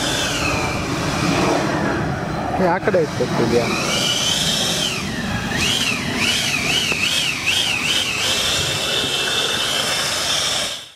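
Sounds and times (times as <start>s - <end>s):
electric fan motor whine: 0.0s - 10.9s
rushing air and spray: 0.0s - 10.9s.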